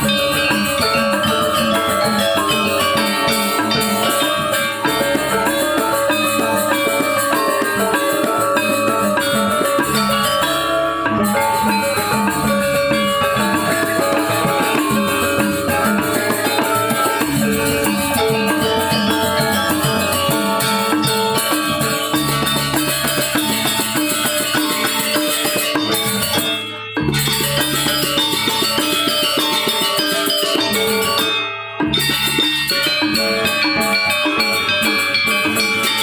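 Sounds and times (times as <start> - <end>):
drums: 0.0 - 36.0
gongs: 0.0 - 36.0
metallophones ringing: 0.0 - 36.0.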